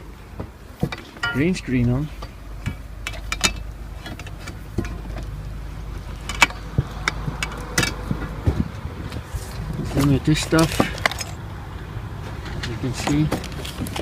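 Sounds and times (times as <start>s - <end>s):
steady low rumble: 0.0s - 14.0s
hardware clicks and knocks: 0.3s - 11.4s, 12.2s - 14.0s.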